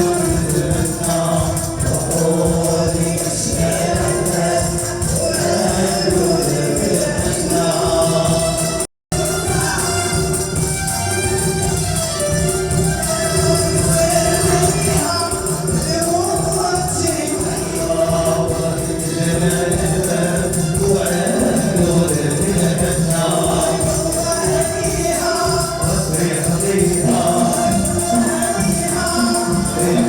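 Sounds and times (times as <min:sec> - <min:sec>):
voices singing together: 0:00.0 - 0:11.5, 0:12.6 - 0:30.0
tambourines and hand percussion: 0:00.0 - 0:30.0.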